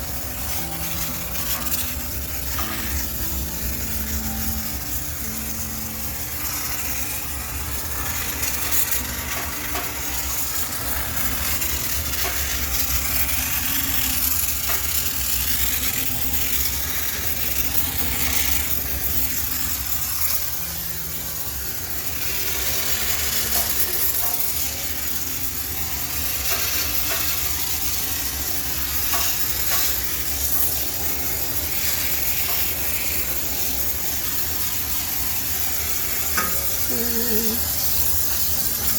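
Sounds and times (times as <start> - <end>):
steam cleaner hissing: 0.0 - 38.9.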